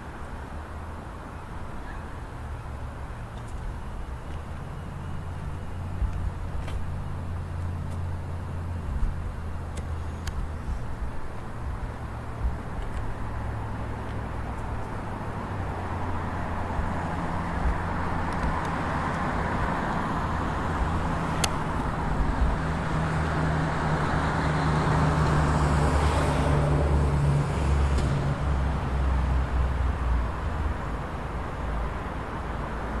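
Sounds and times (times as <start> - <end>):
vehicle engine and tyre noise: 0.0 - 33.0.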